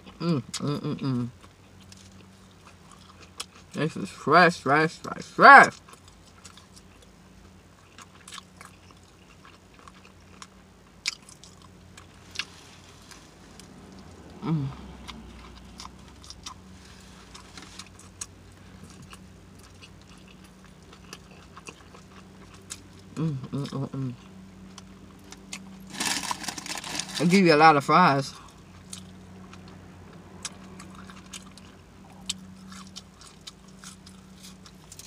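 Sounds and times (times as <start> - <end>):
person chewing sandwich: 0.0 - 3.8, 5.7 - 27.3, 28.4 - 35.0.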